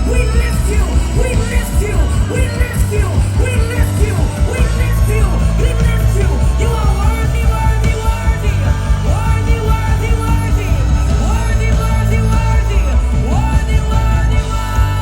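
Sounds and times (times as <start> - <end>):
band playing worship music: 0.0 - 15.0
voices singing: 0.0 - 15.0.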